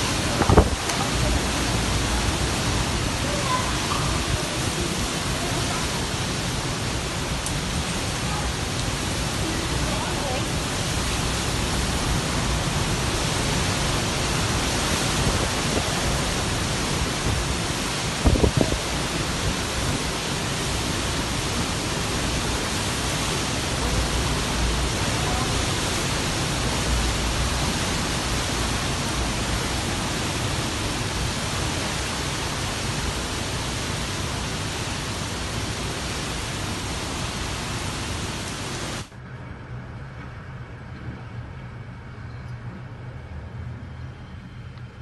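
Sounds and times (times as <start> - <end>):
strong wind and driving rain: 0.0 - 40.0.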